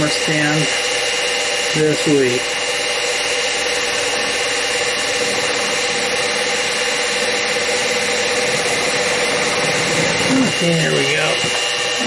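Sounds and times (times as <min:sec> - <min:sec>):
mill spindle motor whine: 0:00.0 - 0:12.0.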